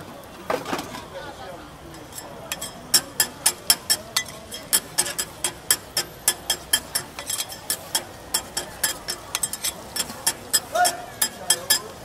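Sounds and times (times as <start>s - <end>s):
metal spatula scraping on griddle: 1.9s - 12.0s.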